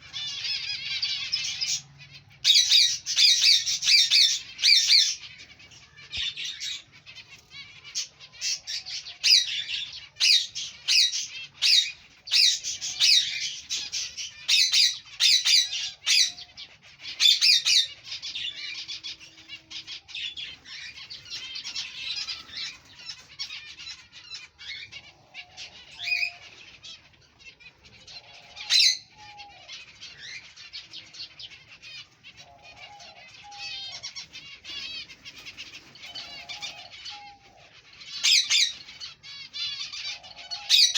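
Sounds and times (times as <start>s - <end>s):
finches calling and chirping: 0.0s - 40.9s.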